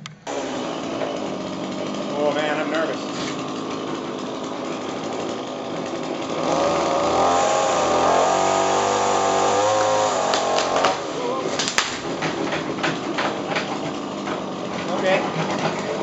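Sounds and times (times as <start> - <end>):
chainsaw cutting a branch: 0.2 - 16.0.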